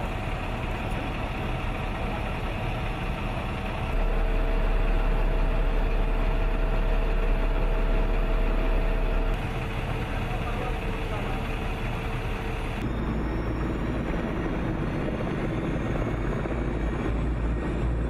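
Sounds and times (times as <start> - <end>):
truck engine and fuel pump running: 0.0 - 18.0.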